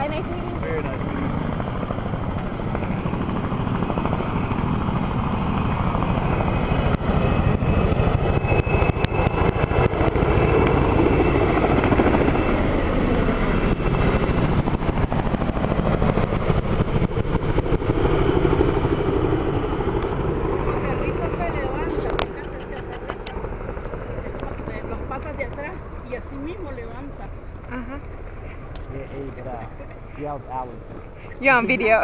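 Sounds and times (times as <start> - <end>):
helicopter rotor chopping: 0.0 - 32.0.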